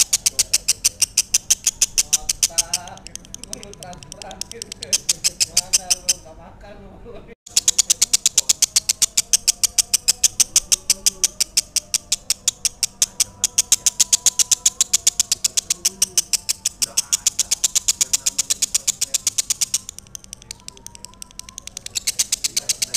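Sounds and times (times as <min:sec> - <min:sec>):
lovebird chattering trill: 0:00.0 - 0:06.3, 0:07.5 - 0:22.9.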